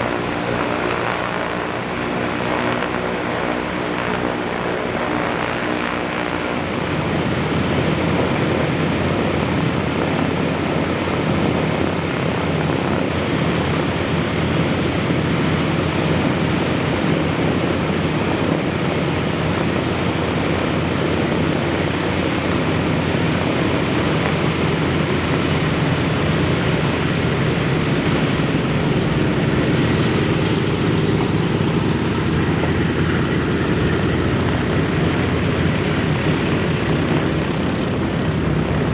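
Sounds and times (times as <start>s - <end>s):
radial aircraft engines running: 0.0s - 38.9s.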